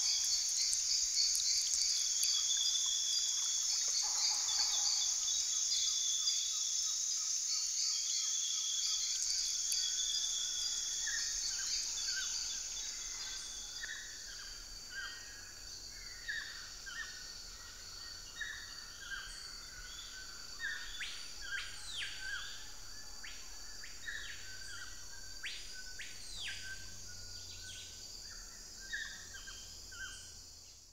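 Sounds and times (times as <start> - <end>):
high insect drone: 0.0 - 30.8.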